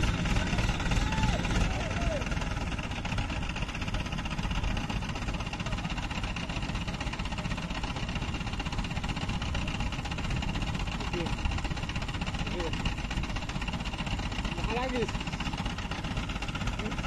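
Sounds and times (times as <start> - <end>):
diesel engine running at low revs: 0.0 - 17.0.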